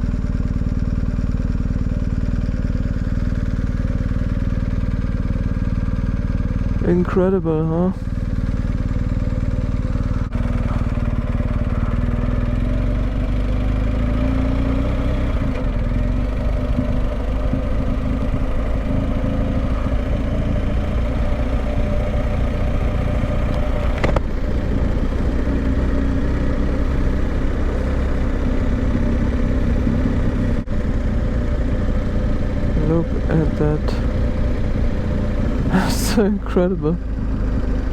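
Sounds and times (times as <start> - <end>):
motorcycle engine: 0.0 - 37.9
road and wind noise: 0.0 - 37.9.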